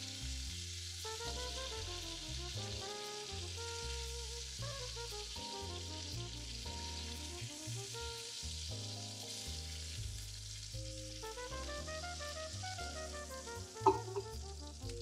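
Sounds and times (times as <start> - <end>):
background music with bass: 0.0 - 15.0
meat sizzling in oil: 0.0 - 15.0.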